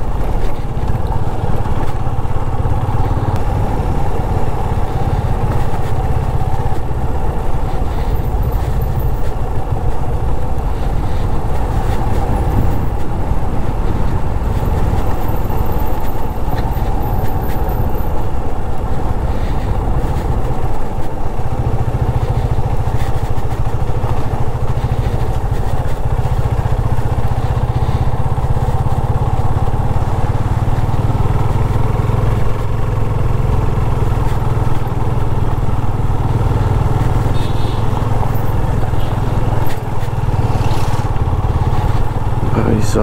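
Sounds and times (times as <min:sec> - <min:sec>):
motorcycle engine riding slowly: 0:00.0 - 0:43.0.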